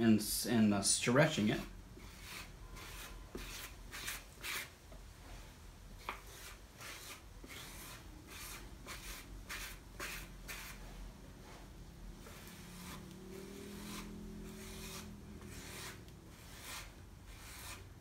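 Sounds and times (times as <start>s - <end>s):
hand rubbing clay: 2.0s - 4.7s, 6.0s - 18.0s.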